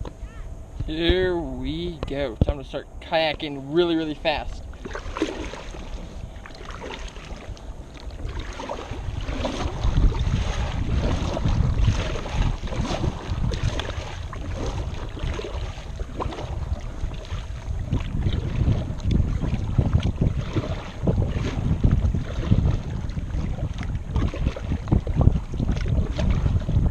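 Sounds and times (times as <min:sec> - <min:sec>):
wind buffeting microphone: 0:00.0 - 0:26.9
paddle strokes splashing: 0:03.2 - 0:26.9.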